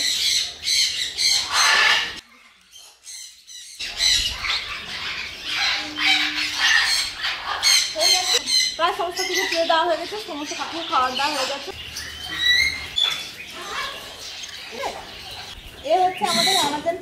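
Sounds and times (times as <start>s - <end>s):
parrots squawking: 0.0s - 17.0s.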